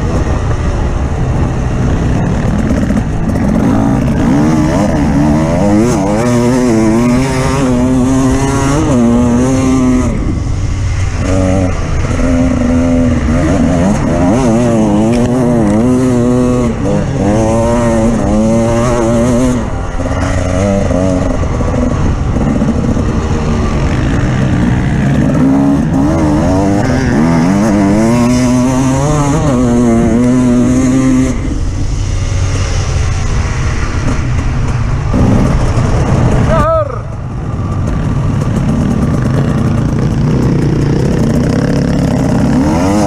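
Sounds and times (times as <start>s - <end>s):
off-road vehicle engine revving: 0.0s - 34.3s, 35.0s - 43.0s.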